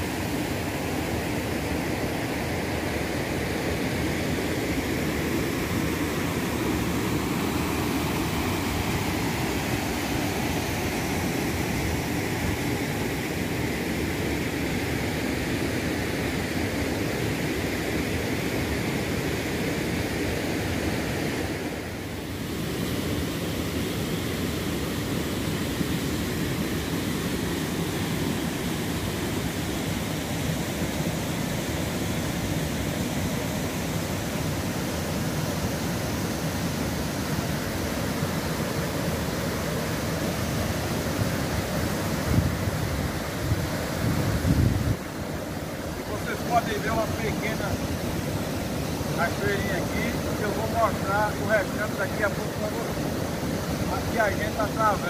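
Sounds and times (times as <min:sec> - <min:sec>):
river rushing over rapids: 0:00.0 - 0:55.0.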